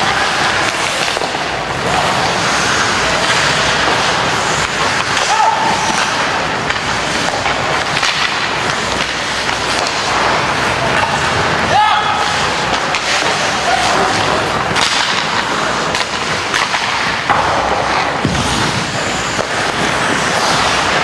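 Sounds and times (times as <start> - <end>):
clacks of sticks and puck: 0.0 - 21.0
rink noise: 0.0 - 21.0.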